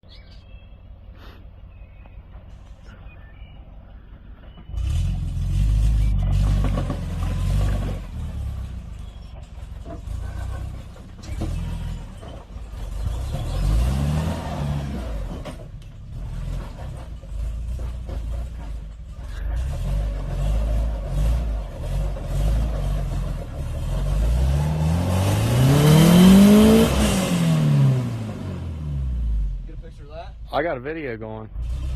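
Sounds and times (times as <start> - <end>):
off-road vehicle engine revving: 4.6 - 31.9.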